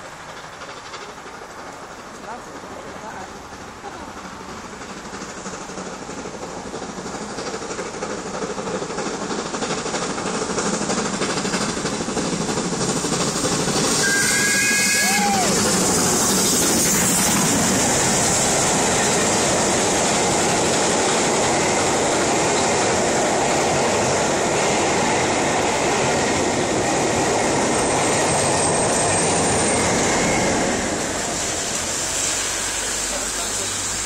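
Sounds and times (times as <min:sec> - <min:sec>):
train wheels rushing on rail: 0:00.0 - 0:34.0.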